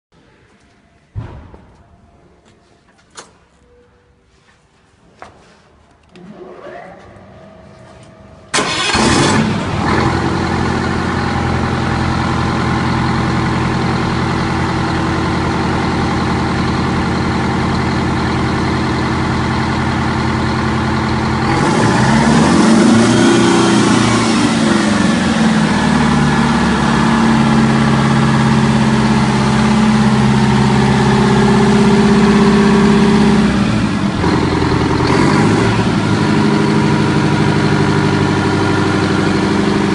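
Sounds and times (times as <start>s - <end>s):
diesel engine running: 7.1s - 39.9s.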